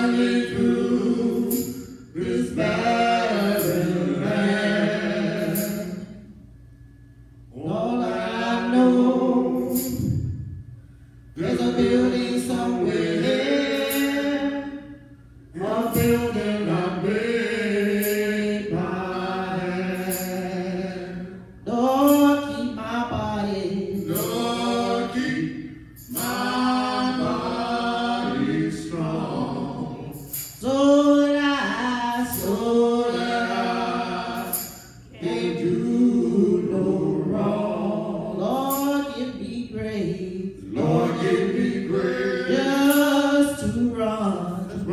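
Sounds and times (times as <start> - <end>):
vocal trio singing a cappella: 0.0 - 10.4, 11.3 - 44.9.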